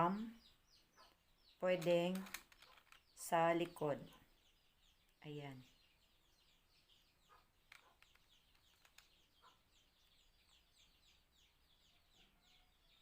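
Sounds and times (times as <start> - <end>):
faint high bird chirps: 0.0 - 13.0.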